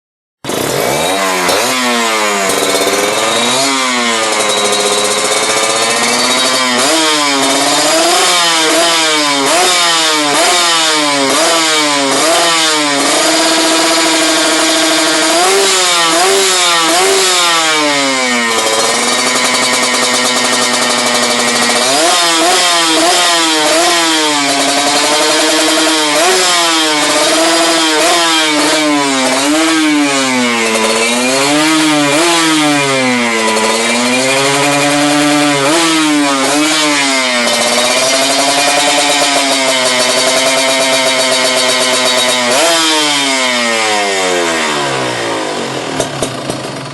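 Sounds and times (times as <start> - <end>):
motorcycle engine revving: 0.4 - 46.9.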